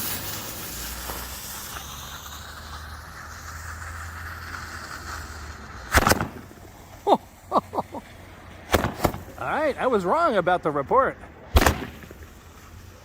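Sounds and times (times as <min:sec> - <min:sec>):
firework shots popping: 0:00.0 - 0:10.4, 0:11.4 - 0:13.0
fuses hissing: 0:00.0 - 0:10.4.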